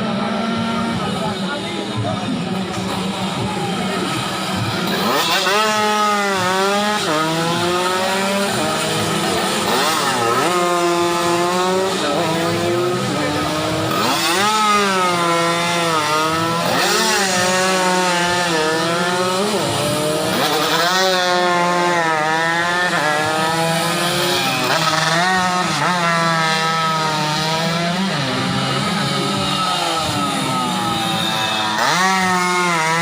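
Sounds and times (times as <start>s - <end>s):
motorcycles racing and revving: 0.0s - 33.0s.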